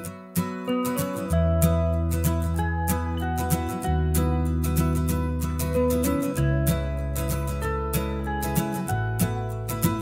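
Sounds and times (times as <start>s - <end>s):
guitar background music: 0.0s - 10.0s.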